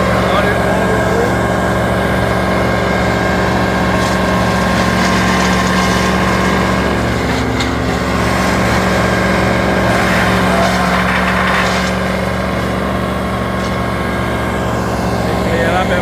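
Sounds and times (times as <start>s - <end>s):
large engine running steadily: 0.0s - 16.0s.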